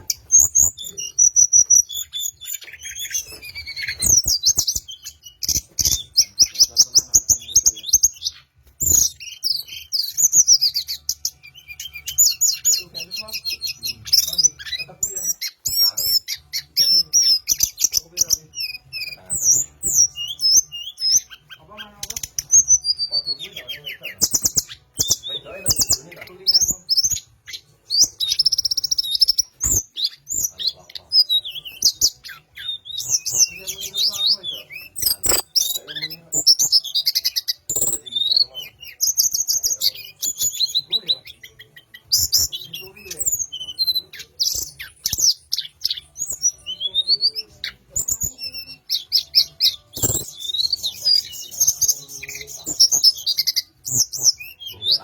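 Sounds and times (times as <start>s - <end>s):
songbird singing whistled trills: 0.0s - 55.0s.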